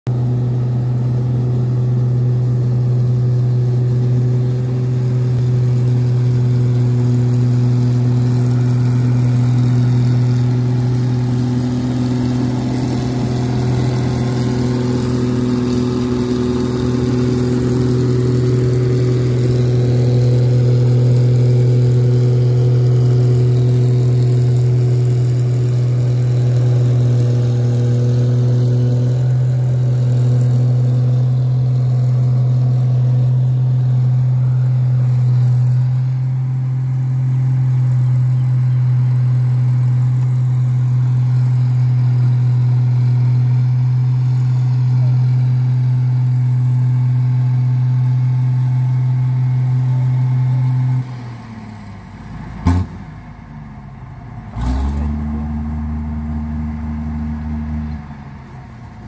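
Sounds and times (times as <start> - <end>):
diesel engine droning: 0.1 - 59.0.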